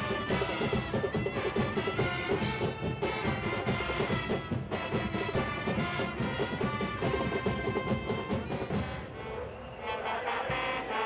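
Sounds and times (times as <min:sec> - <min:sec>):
brass band playing: 0:00.0 - 0:11.0
steady percussion: 0:00.0 - 0:11.0.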